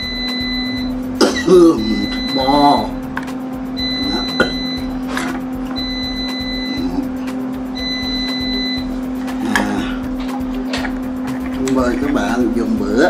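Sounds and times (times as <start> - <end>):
high tone: 0.0 - 11.3
low electrical hum: 0.0 - 13.0.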